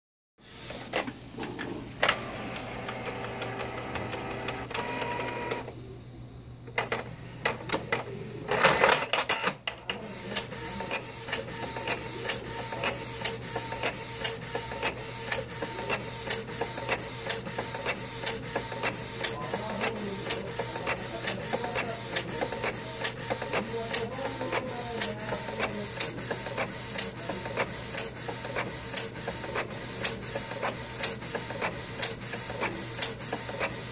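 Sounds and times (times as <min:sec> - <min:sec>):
inkjet printer motors whirring: 0:00.4 - 0:05.8, 0:06.6 - 0:33.9.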